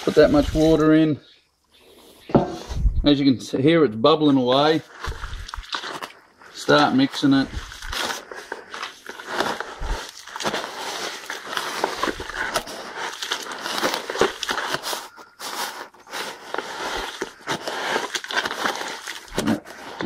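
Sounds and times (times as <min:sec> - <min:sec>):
wet gritty mix crackling: 0:00.0 - 0:02.7, 0:04.1 - 0:20.0.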